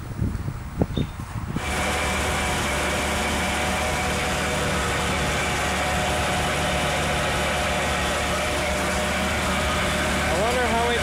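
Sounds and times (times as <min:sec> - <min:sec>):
engine running steadily: 0:01.2 - 0:11.0.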